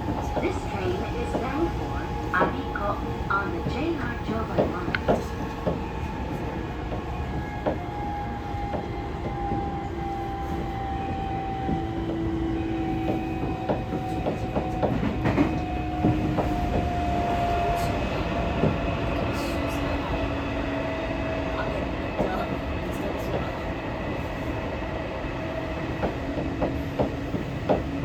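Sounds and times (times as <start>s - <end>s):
subway train rumble: 0.0s - 28.0s
wheels clacking on rail: 0.0s - 28.0s.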